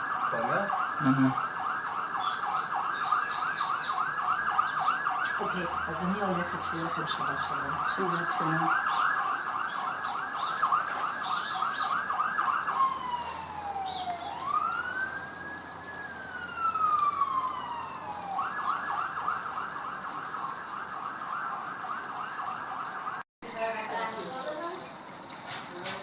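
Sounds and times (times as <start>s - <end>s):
emergency vehicle siren: 0.0s - 23.3s.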